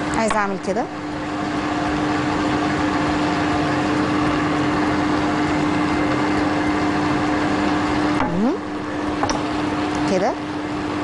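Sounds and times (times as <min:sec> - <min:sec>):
electric blender motor humming: 0:00.0 - 0:11.0.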